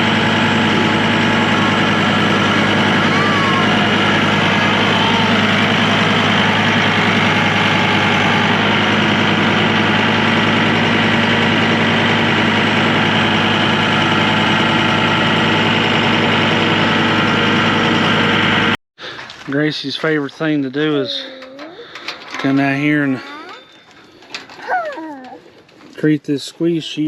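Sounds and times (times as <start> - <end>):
tractor engine running: 0.0 - 24.6.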